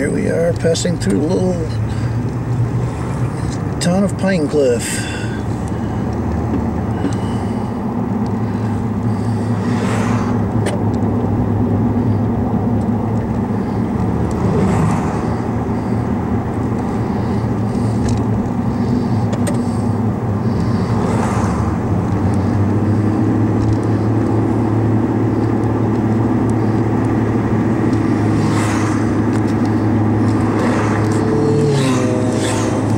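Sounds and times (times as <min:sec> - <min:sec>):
car engine and tyre drone: 0:00.0 - 0:32.9.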